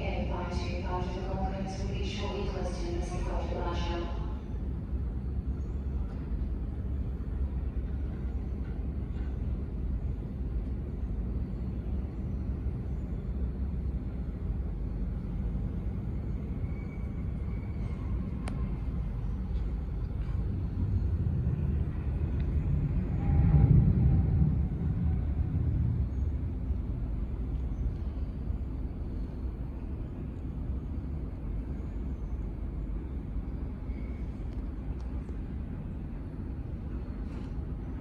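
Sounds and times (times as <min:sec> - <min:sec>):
low engine rumble: 0:00.0 - 0:38.0.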